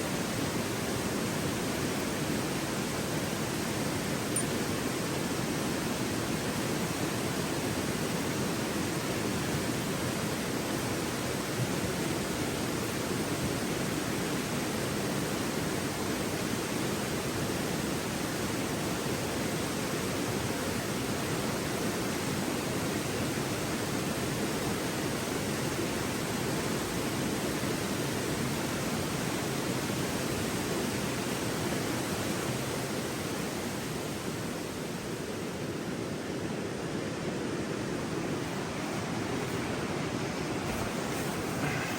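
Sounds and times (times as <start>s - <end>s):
river flowing: 0.0s - 41.9s.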